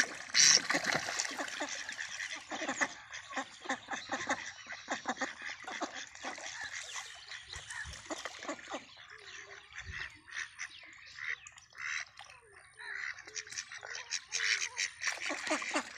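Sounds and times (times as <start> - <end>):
ducks splashing in water: 0.0 - 15.9.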